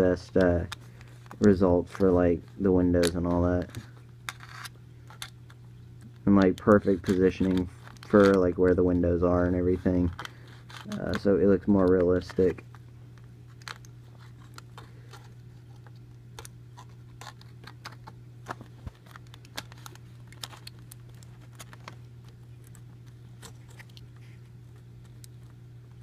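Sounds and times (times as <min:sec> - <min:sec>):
aluminum foil crinkling: 0:00.0 - 0:26.0
steady low hum: 0:00.0 - 0:26.0.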